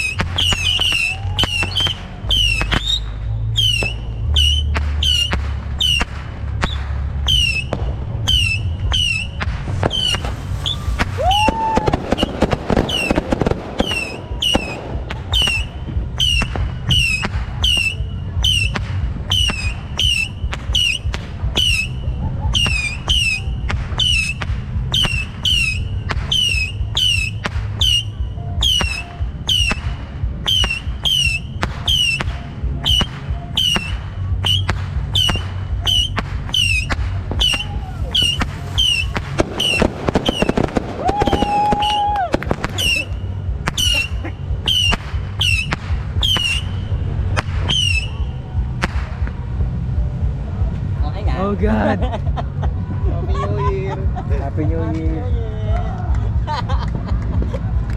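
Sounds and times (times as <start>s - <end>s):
firework whistle: 0.0s - 49.0s
firecrackers cracking: 0.0s - 51.0s
low rumble: 0.0s - 57.9s.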